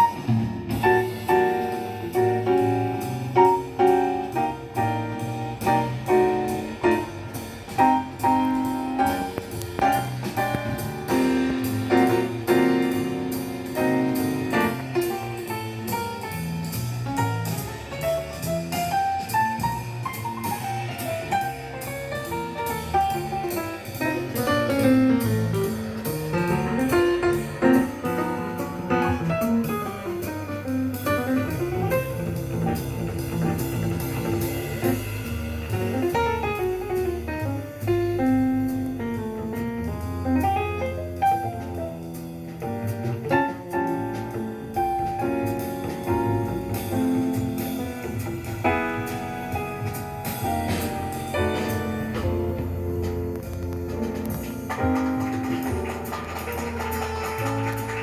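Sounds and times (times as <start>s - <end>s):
bass notes: 0.0s - 58.0s
drums with cymbal ticks: 0.0s - 58.0s
jazz piano runs: 0.0s - 58.0s.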